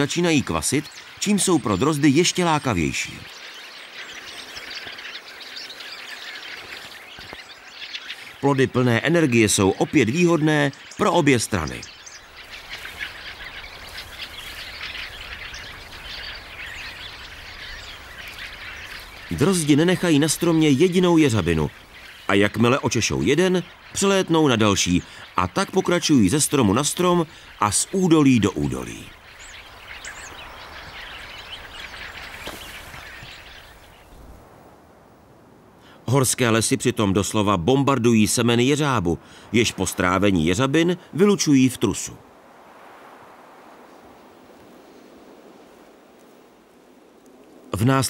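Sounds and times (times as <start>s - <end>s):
flock of birds chattering: 0.0s - 34.6s, 35.8s - 42.4s.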